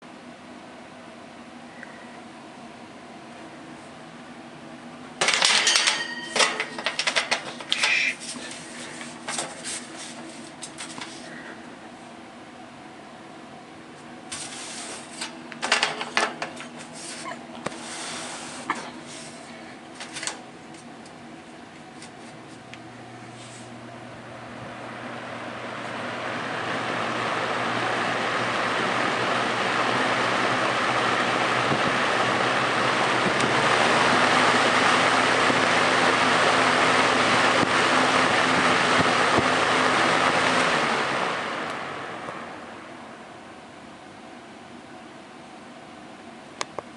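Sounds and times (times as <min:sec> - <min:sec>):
box fan humming: 0:00.0 - 0:46.9.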